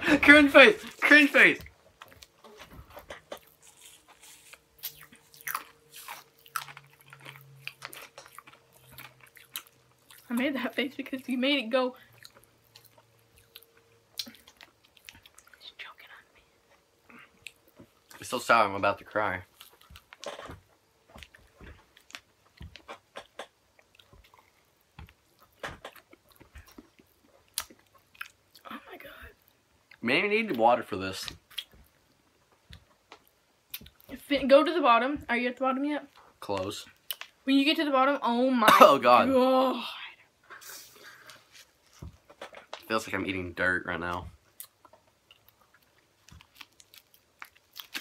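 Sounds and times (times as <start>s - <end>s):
popping candy crackling while chewed: 0.5s - 11.4s, 12.0s - 35.3s, 36.0s - 37.4s, 41.0s - 48.0s.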